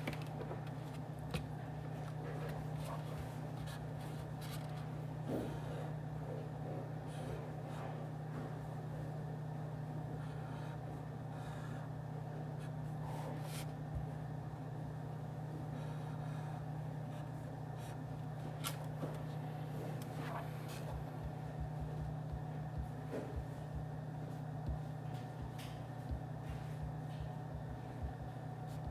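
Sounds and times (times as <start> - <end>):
ventilation hum: 0.0 - 28.9.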